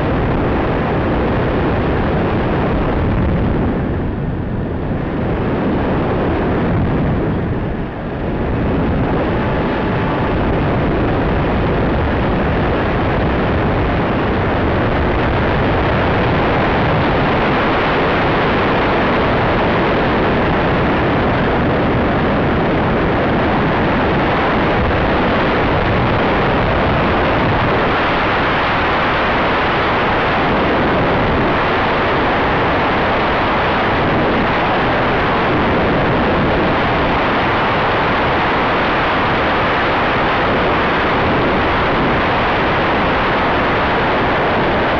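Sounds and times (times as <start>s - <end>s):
loud airflow rushing over microphone: 0.0s - 44.9s.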